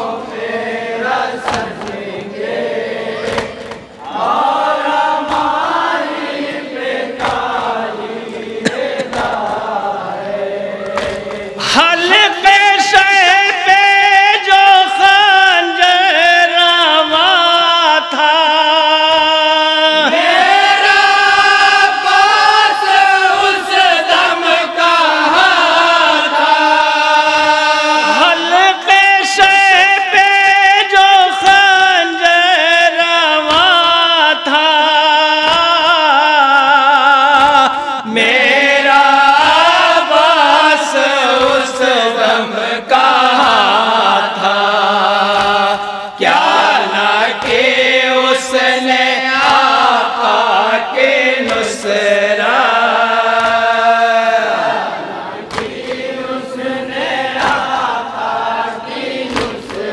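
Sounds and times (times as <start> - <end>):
men chanting a lament: 0.0 - 59.9.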